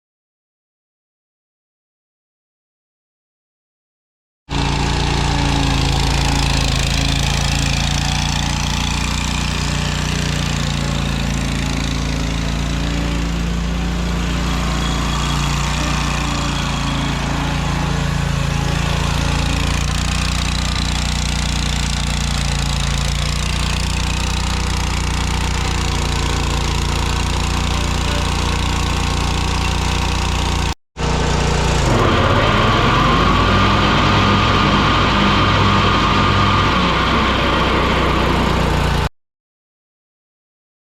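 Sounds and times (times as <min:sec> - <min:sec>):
mower engine running: 0:04.5 - 0:39.1.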